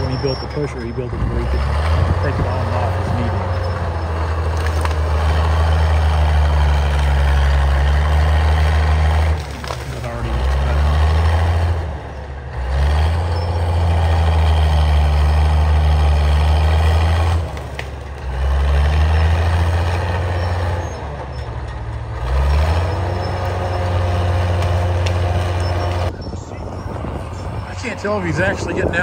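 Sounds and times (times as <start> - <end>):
bulldozer diesel engine under load: 0.0 - 29.0.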